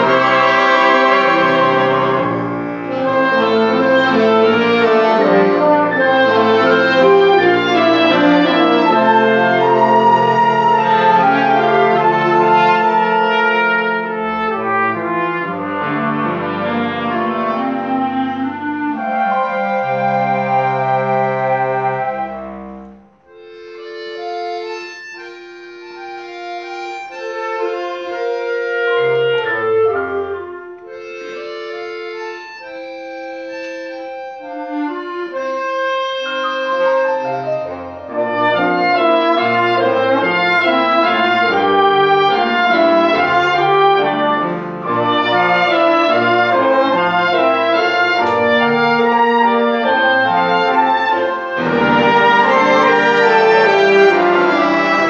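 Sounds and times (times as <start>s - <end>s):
instrumental ensemble playing: 0.0s - 55.0s.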